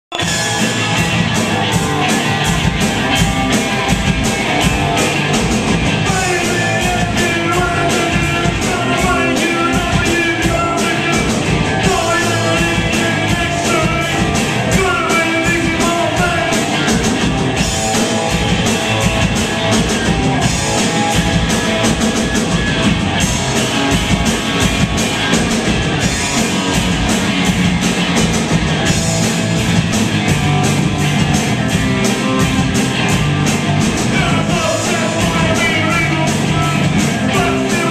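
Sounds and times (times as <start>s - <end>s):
live rock band playing: 0.1s - 37.9s.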